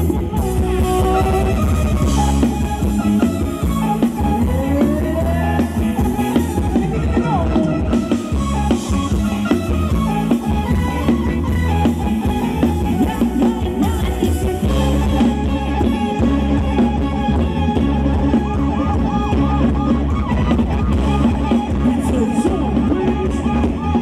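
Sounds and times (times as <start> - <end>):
drums steady beat: 0.0 - 24.0
live band dance music over pa: 0.0 - 24.0.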